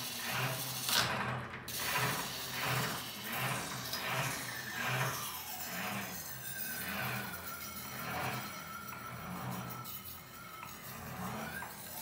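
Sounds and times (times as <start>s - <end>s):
hand-cranked grinder gears whirring: 0.0s - 12.0s
blade sharpened on grinding wheel: 1.7s - 12.0s.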